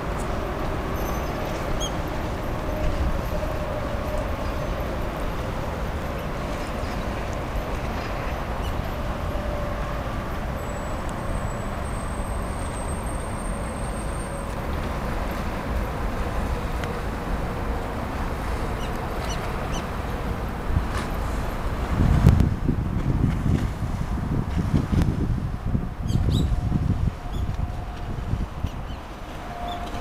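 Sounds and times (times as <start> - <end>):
distant traffic hum: 0.0 - 30.0
wind rumbling on microphone: 0.0 - 30.0.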